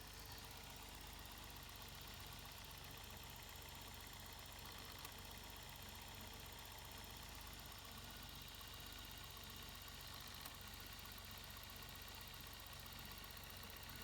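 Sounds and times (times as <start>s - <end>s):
faint car engine idling: 0.0s - 14.0s.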